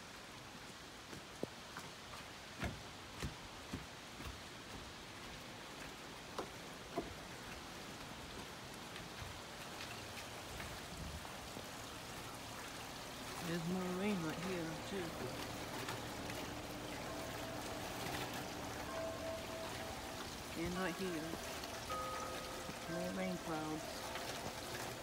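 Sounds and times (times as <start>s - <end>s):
steady rain hiss: 0.0s - 25.0s
raindrops ticking: 0.1s - 25.0s.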